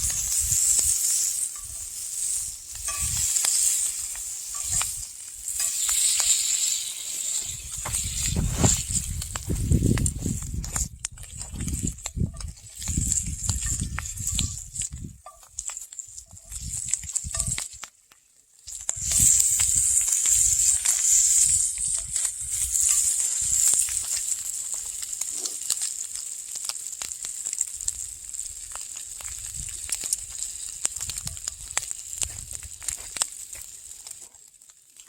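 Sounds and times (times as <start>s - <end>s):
bacon sizzling and popping: 0.0s - 35.0s.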